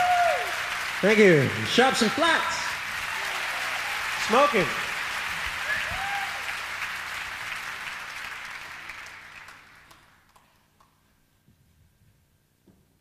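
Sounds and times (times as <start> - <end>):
concert audience applauding: 0.0 - 11.1.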